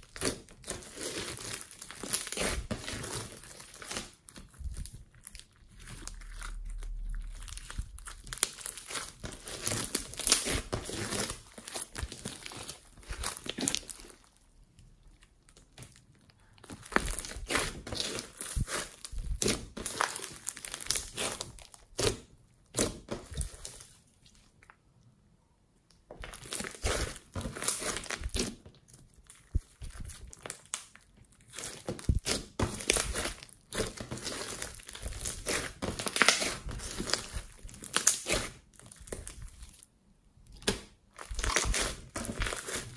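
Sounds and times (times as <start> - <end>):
slime crackling and popping: 0.0 - 24.8, 26.1 - 42.9.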